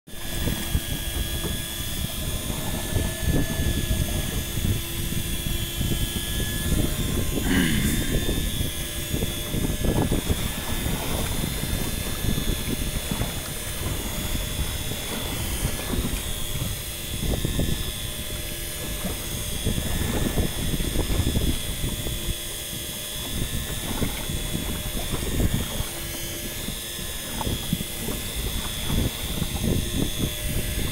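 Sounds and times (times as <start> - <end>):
outboard engine hum: 0.1 - 30.9
sea water splashing against boat: 0.1 - 30.9
wind on microphone: 0.1 - 30.9.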